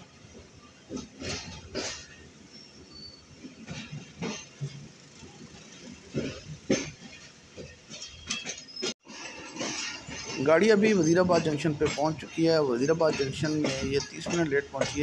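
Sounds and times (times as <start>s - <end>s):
train rolling rumble: 0.0s - 15.0s
wheels clacking over rail joints: 0.0s - 15.0s.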